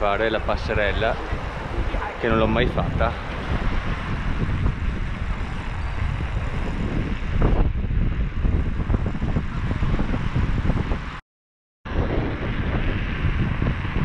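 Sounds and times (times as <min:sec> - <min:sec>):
wind buffeting microphone: 0:00.0 - 0:11.2, 0:11.9 - 0:14.0.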